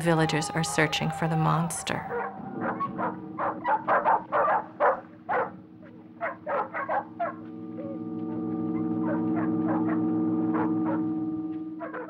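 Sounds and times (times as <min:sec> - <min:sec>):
dogs barking and yipping: 0:00.0 - 0:07.5, 0:08.7 - 0:11.0, 0:11.8 - 0:12.0
low held film music chord: 0:00.0 - 0:12.0.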